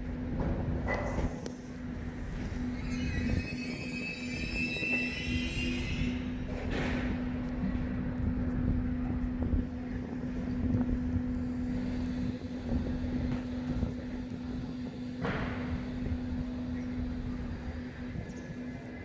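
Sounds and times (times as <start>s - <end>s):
heavy machinery engine drone: 0.0s - 19.0s.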